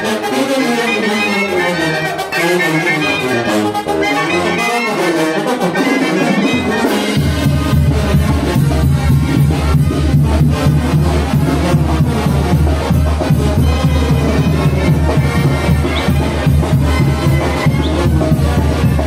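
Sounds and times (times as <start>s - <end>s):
brass band music: 0.0s - 19.0s.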